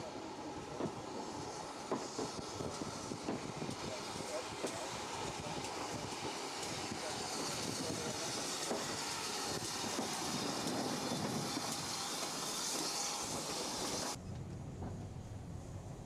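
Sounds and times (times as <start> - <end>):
steam hissing: 0.0 - 14.2
train rumbling: 0.0 - 16.0.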